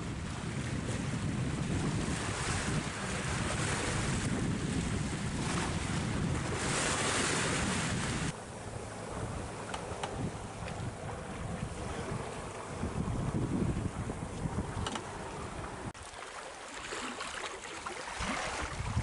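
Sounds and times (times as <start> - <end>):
wind buffeting microphone: 0.0 - 16.0, 18.2 - 19.0
water rushing along hull: 0.0 - 19.0.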